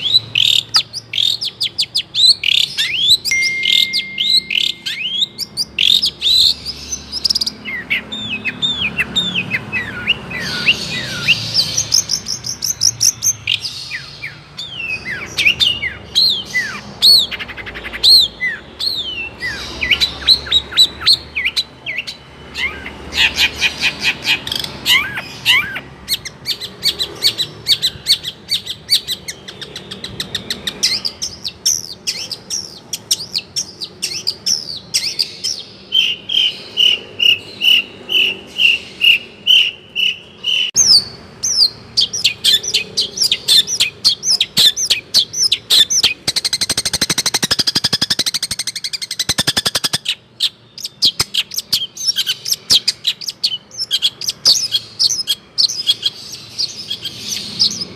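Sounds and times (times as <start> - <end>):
bird singing varied song: 0.0 - 57.9.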